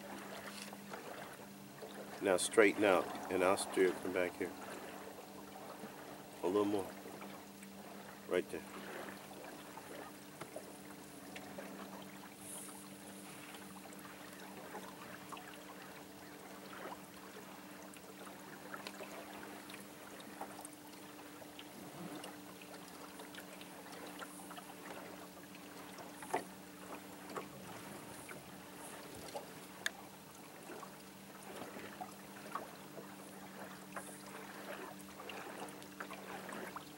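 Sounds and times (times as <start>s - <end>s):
boat motor humming: 0.0s - 36.9s
water splashing against hull: 0.0s - 36.9s.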